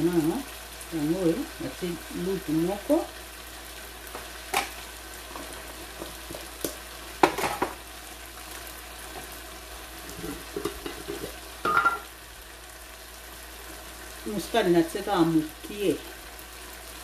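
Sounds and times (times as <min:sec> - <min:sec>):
sauce sizzling in a frying pan: 0:00.0 - 0:17.0.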